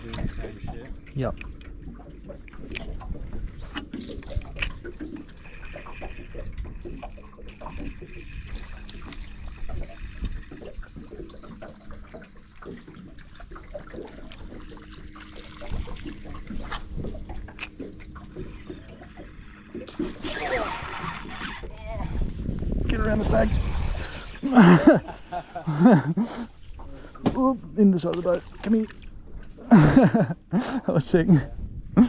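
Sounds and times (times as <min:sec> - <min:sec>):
water lapping against boat hull: 0:00.0 - 0:32.0.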